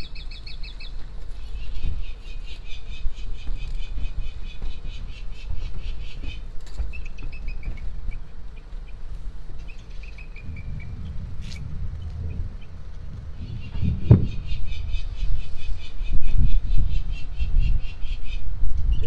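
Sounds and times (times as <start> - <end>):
low rumble: 0.0 - 19.0
small bird chirping: 0.0 - 19.0.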